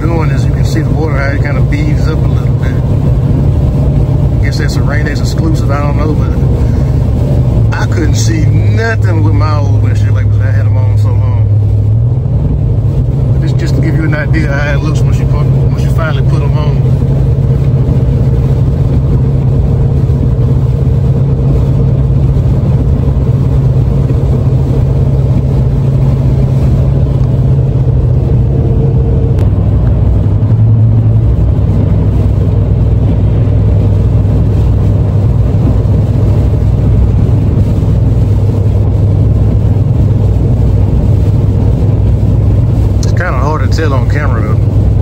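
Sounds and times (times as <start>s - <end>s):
engine and road drone in car: 0.0s - 45.0s.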